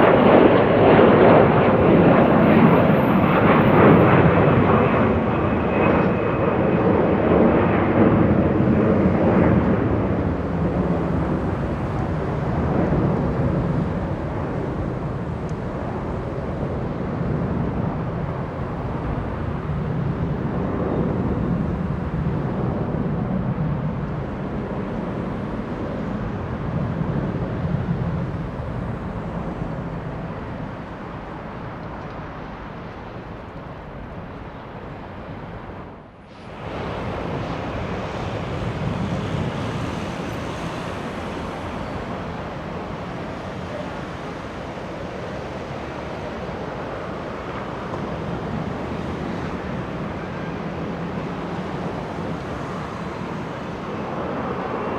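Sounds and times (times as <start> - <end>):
jet engines rumbling: 0.0 - 54.9.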